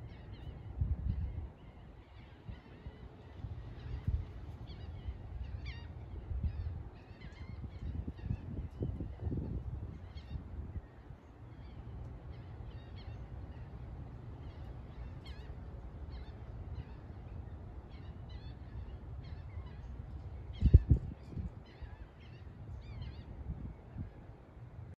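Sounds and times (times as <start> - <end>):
wind rumble on microphone: 0.0 - 24.9.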